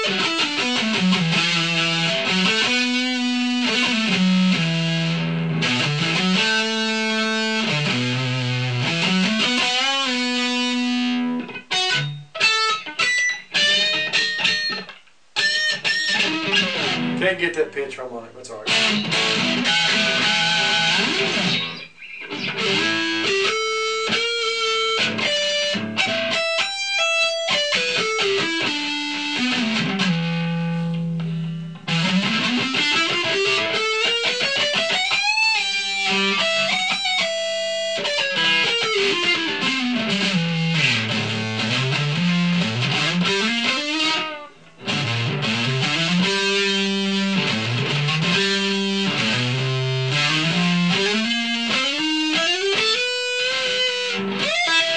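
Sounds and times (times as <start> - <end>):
distorted electric guitar lead: 0.0 - 54.9.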